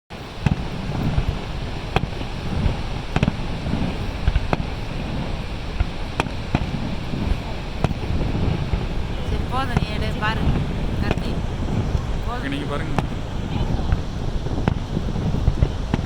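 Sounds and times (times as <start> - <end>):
falling water roaring: 0.1 - 16.0
fireworks banging: 0.1 - 16.0.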